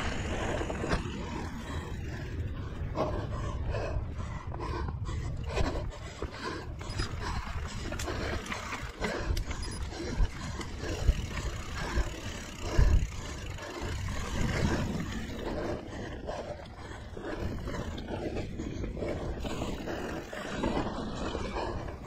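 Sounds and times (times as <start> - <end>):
wind and tyre rumble: 0.0 - 22.0.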